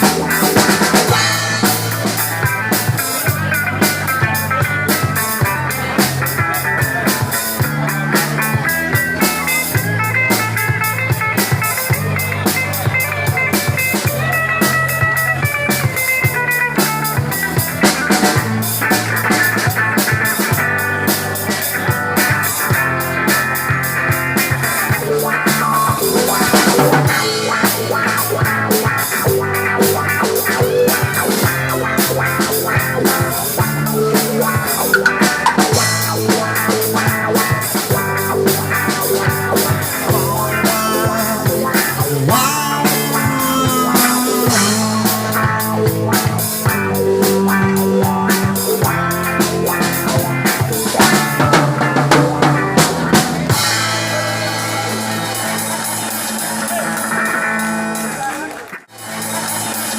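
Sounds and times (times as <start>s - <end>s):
bass guitar: 0.0s - 59.9s
drum kit with rimshots: 0.0s - 59.9s
electric guitar: 0.0s - 59.9s.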